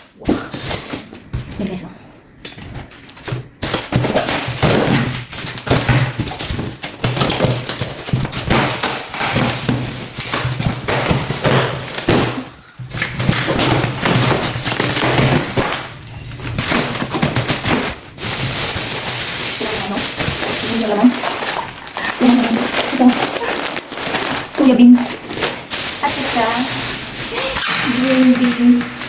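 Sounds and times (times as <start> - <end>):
packaging rustling and crinkling: 2.5 - 29.0.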